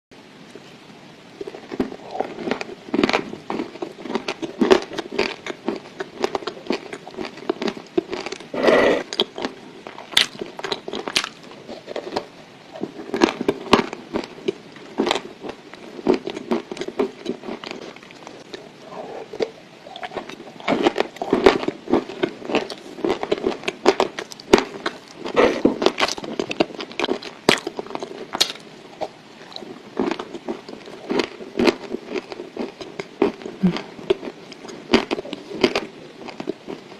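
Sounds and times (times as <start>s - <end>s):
teeth grinding: 1.4s - 36.9s.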